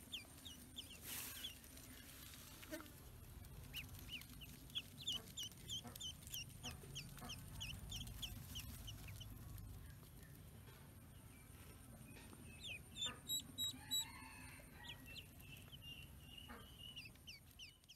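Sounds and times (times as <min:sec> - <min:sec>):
ducklings peeping: 0:00.0 - 0:17.9.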